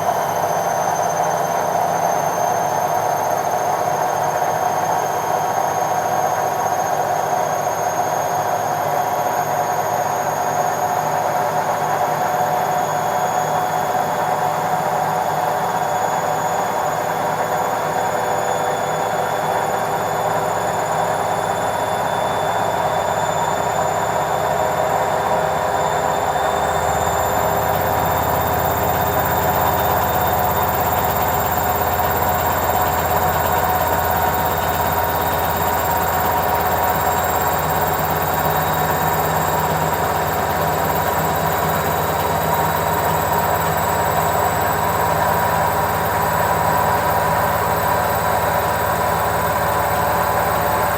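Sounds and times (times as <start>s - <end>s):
washing machine spin cycle: 0.0s - 50.9s.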